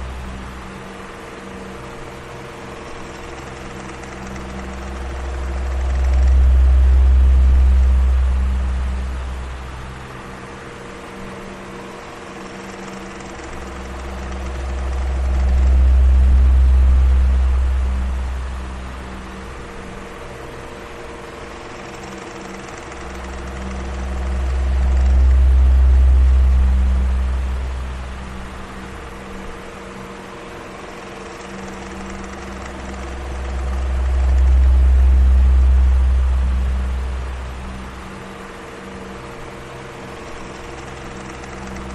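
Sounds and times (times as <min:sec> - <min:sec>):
electric fan motor hum: 0:00.0 - 0:41.9
deep rumble: 0:01.8 - 0:41.9.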